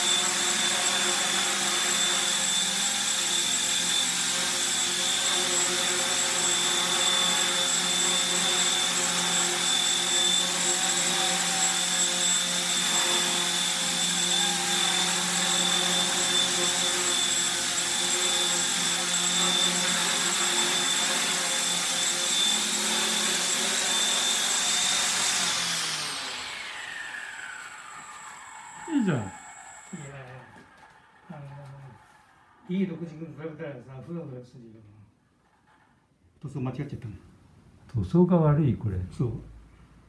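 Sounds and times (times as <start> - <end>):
toy helicopter motor whine: 0.0 - 32.8.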